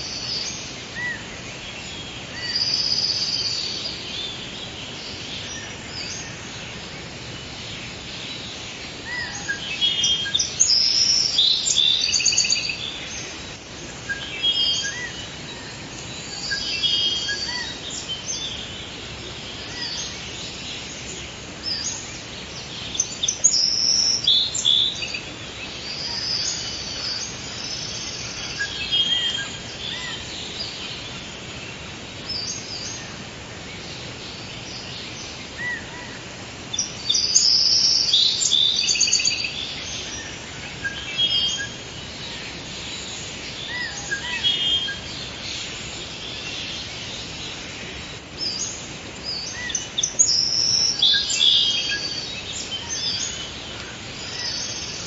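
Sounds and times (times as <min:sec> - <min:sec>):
background hiss: 0:00.0 - 0:55.0
songbirds chirping: 0:00.0 - 0:55.0.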